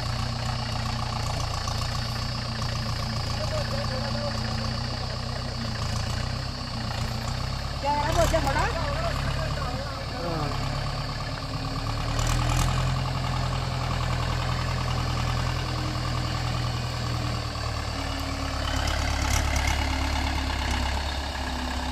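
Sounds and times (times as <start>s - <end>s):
diesel tractor engine running: 0.0s - 21.9s.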